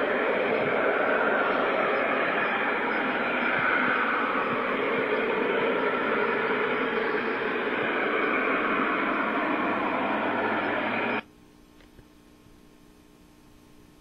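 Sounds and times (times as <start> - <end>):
loud roar of steam venting: 0.0 - 11.2.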